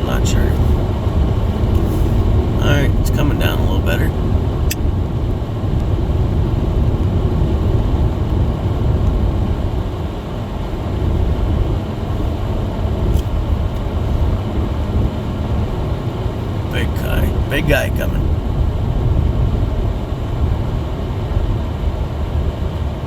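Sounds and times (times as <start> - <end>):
car engine and tyre noise: 0.0 - 23.0.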